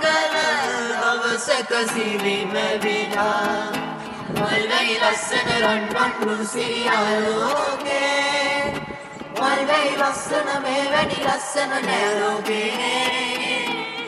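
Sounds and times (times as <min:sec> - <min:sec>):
group of young voices singing: 0:00.0 - 0:14.0
strummed acoustic guitar: 0:00.0 - 0:14.0.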